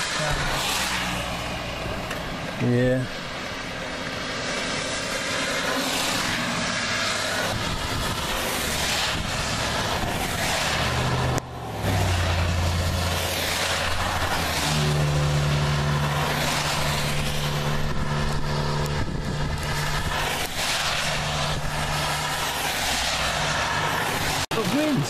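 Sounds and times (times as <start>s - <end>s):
low engine hum: 0.0s - 24.5s
rain around a vehicle: 0.0s - 25.0s
strong storm wind: 0.0s - 25.0s.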